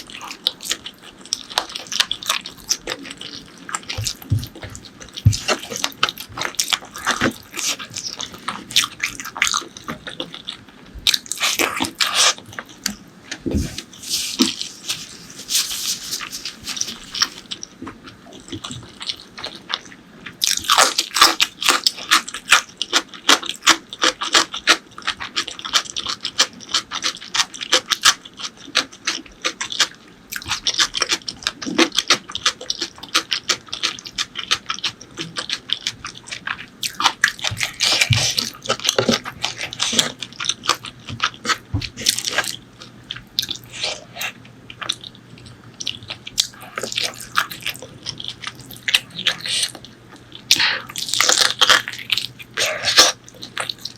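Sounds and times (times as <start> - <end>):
person chewing with mouth clicks: 0.0 - 53.9.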